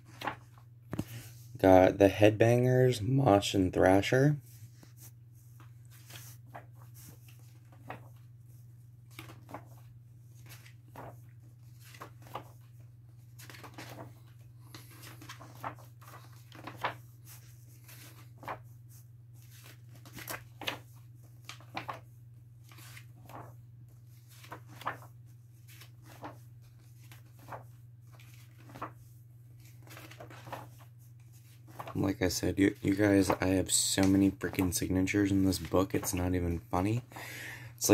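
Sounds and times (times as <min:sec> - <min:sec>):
book pages turning: 0:00.0 - 0:01.6, 0:04.4 - 0:37.2.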